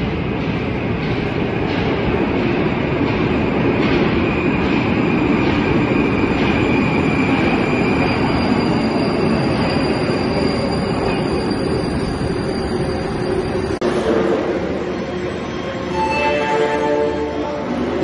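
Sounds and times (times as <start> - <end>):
metro train rumbling into station: 0.0 - 18.0.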